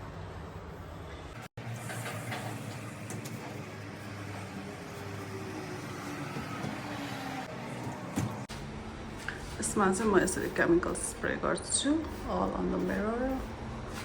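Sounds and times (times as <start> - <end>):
distant traffic hum: 1.6 - 14.0.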